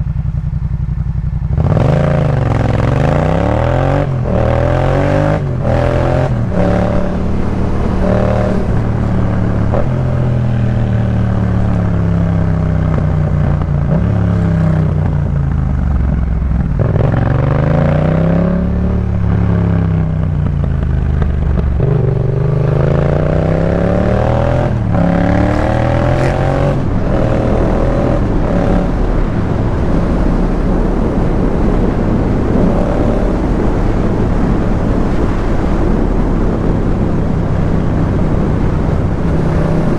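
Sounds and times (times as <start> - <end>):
motorcycle engine accelerating: 0.0 - 39.9
rushing noise: 1.6 - 39.9.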